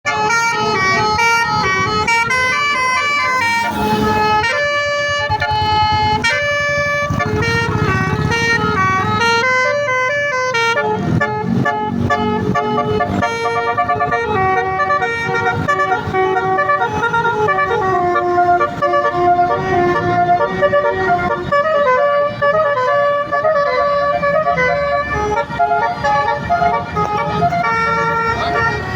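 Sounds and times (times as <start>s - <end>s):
bus air horn playing a tune: 0.1s - 28.9s
vehicle engine running: 0.6s - 28.9s.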